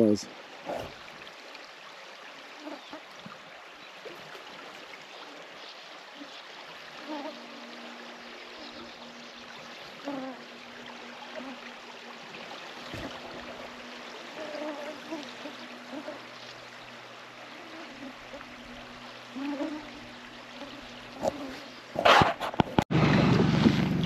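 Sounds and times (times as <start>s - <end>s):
river water running: 0.0s - 24.0s.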